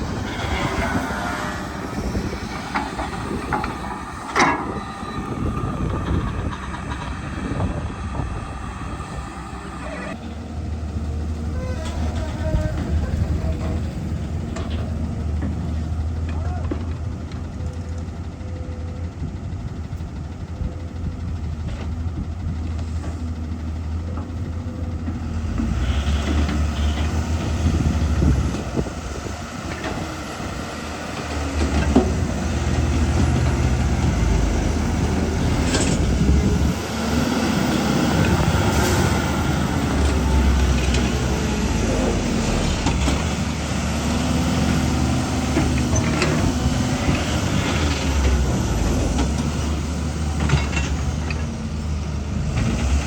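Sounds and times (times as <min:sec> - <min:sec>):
diesel engine working under load: 0:00.0 - 0:53.0
loader knocking: 0:00.0 - 0:53.0.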